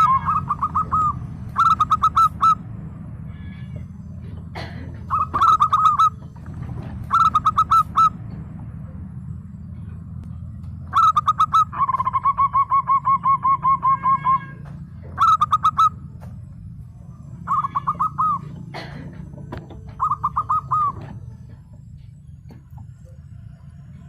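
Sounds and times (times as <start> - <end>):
dove cooing in staccato notes: 0.0 - 9.1, 10.8 - 23.3.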